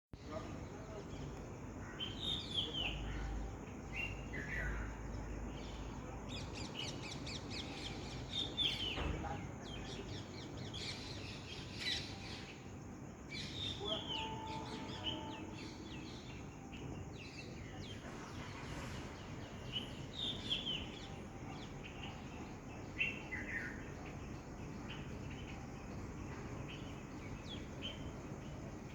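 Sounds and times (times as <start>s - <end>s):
birds chirping: 0.2s - 28.9s.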